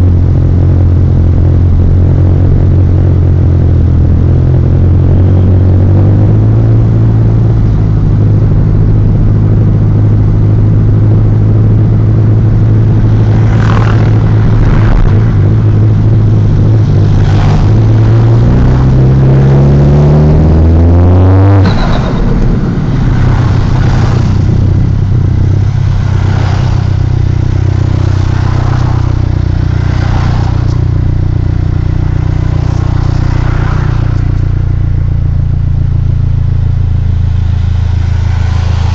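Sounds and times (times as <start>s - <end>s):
car engine running and revving: 0.0s - 38.9s.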